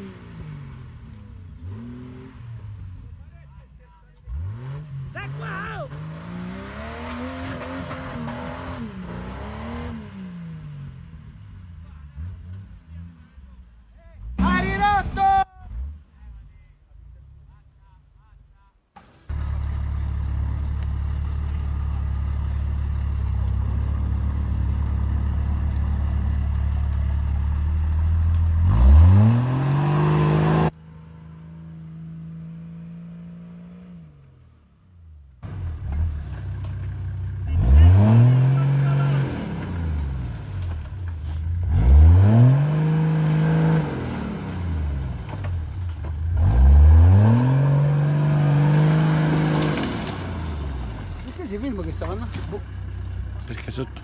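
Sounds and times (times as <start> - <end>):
truck engine revving: 0.0 - 3.2, 4.2 - 13.4, 19.3 - 34.6, 35.4 - 54.0.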